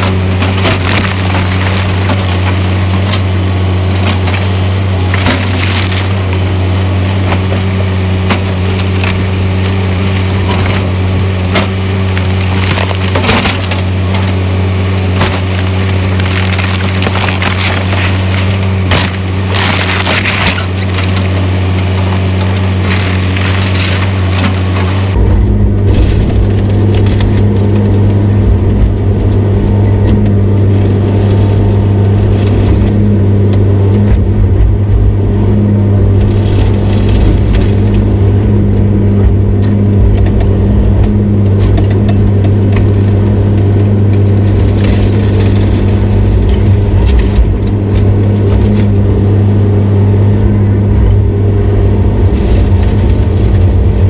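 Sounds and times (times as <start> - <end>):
debris crushing and crackling: 0.0 - 54.0
deep rumble: 0.0 - 54.0
diesel engine running under load: 0.0 - 54.0.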